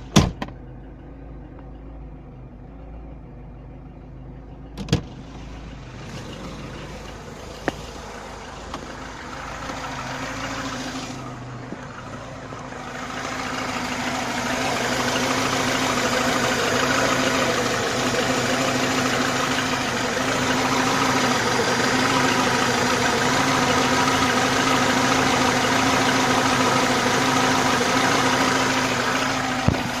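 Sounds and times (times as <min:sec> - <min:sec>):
car engine idling with knock: 0:00.0 - 0:30.0.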